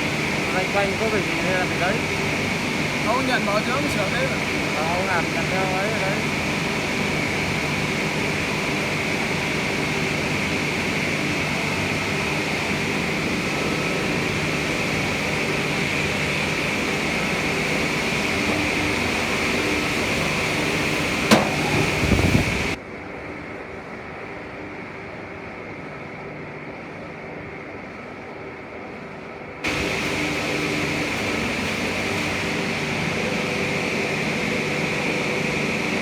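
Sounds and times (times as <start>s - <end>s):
hissing whine: 0.0s - 22.8s, 29.6s - 36.0s
industrial machinery humming: 0.0s - 22.8s, 29.6s - 36.0s.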